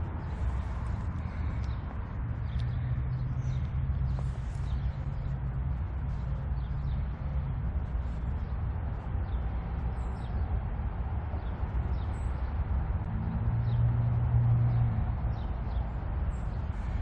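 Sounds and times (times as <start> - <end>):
droning hum: 0.0 - 17.0
low outdoor rumble: 0.0 - 17.0.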